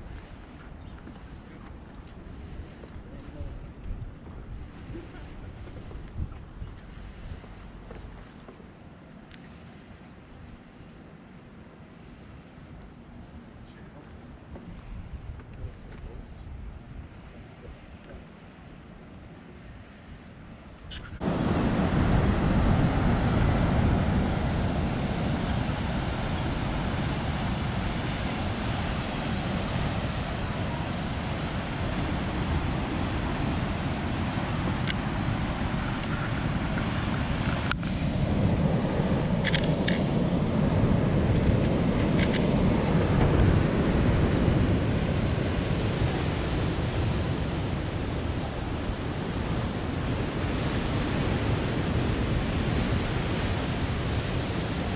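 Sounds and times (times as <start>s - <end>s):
wind on microphone: 0.0s - 8.5s, 14.3s - 54.9s
ocean surf washing ashore: 0.0s - 54.9s.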